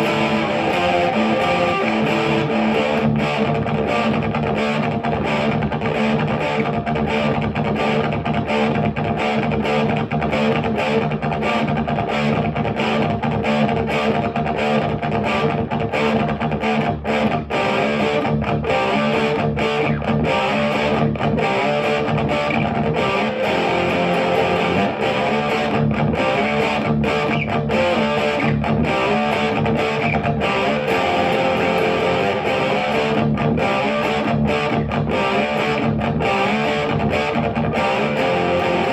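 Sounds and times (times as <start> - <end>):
electric guitar riffs: 0.0 - 38.9.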